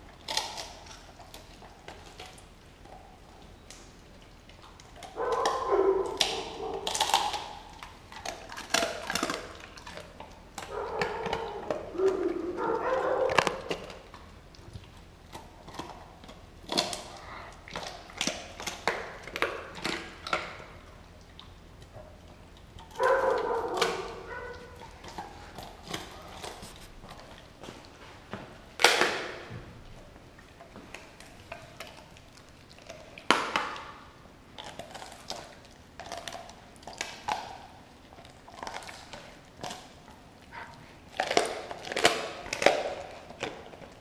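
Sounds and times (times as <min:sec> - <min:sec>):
dog chewing meat and bone: 0:00.0 - 0:44.0.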